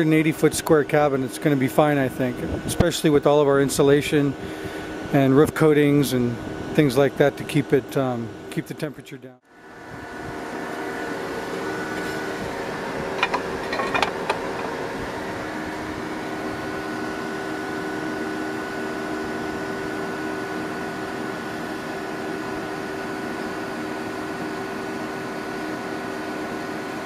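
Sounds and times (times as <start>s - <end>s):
cooler fan humming and whining: 0.0s - 27.0s.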